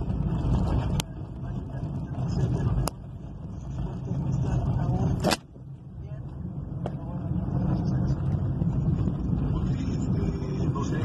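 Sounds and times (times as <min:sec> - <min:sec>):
car engine and road noise: 0:00.0 - 0:11.0
wind: 0:00.0 - 0:11.0.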